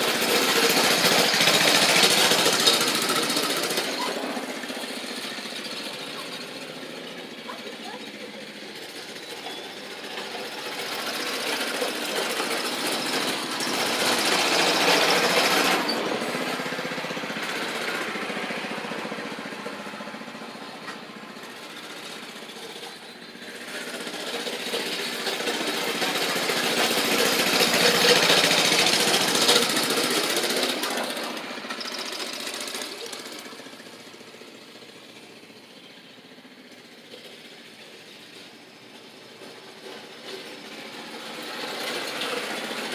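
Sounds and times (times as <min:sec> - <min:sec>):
mini bike engine running: 0:00.0 - 0:42.9.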